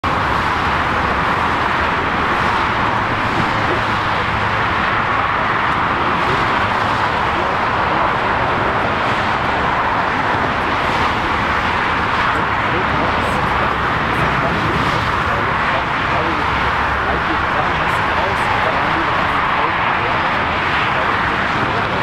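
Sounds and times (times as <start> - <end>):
airport background roar: 0.0 - 22.0.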